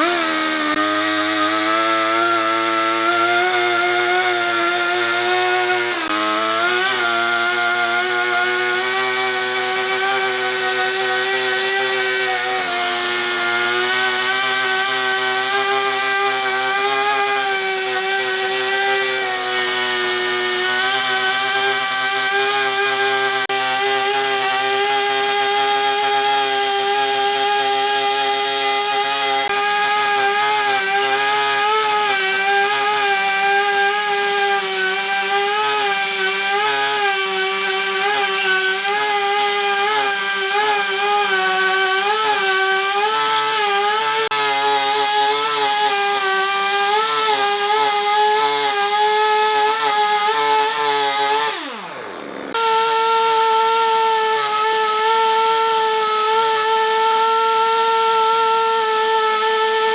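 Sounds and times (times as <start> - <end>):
power tool motor whining: 0.0 - 59.9.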